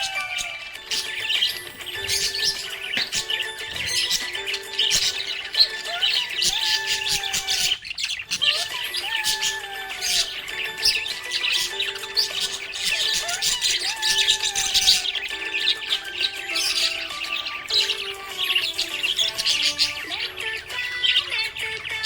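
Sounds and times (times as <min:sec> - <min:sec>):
slow background music: 0:00.0 - 0:07.8, 0:08.4 - 0:22.0
budgies chirping and chattering: 0:00.0 - 0:22.0.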